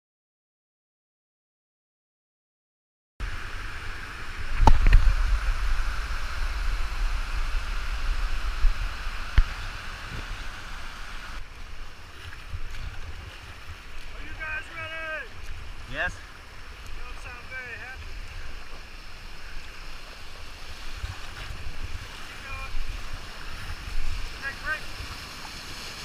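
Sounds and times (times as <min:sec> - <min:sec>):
wind buffeting microphone: 0:03.2 - 0:14.7, 0:15.3 - 0:25.2
river rapid rushing: 0:03.2 - 0:26.0.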